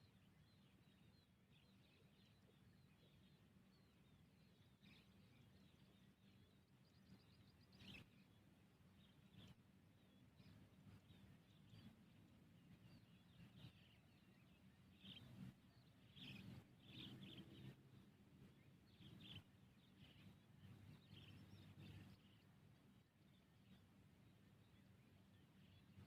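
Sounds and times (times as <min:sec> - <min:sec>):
faint bird chirps: 0:00.0 - 0:26.0
low steady background hum: 0:00.0 - 0:26.0.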